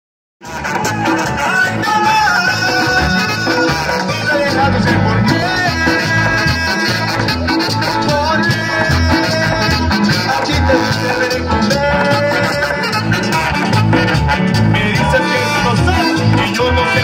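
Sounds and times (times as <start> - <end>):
bass and percussion beat: 0.4 - 17.0
horn section: 0.4 - 17.0
man singing into microphone: 0.4 - 17.0.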